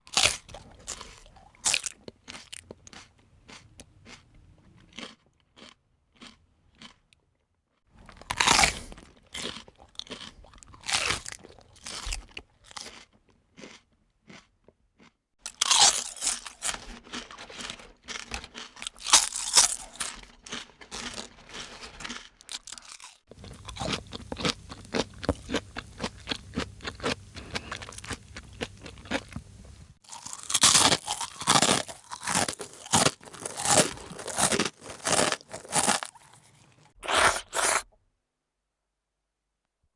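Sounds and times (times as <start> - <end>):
person chewing crunchy food: 0.0 - 37.9.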